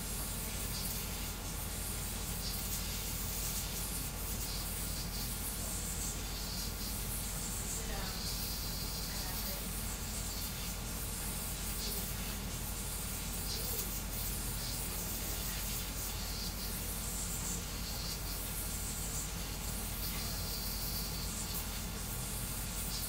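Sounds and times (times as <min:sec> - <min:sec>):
cooling fans hissing: 0:00.0 - 0:23.0
stepper motors buzzing: 0:00.0 - 0:23.0.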